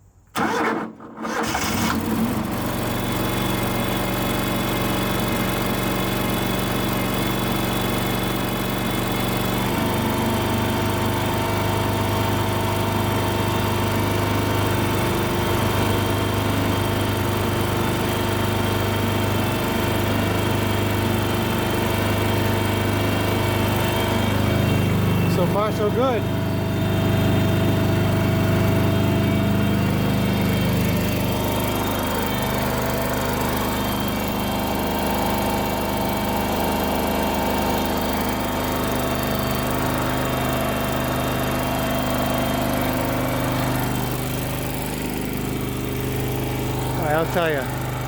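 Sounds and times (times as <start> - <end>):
engine running steadily: 0.4 - 48.0.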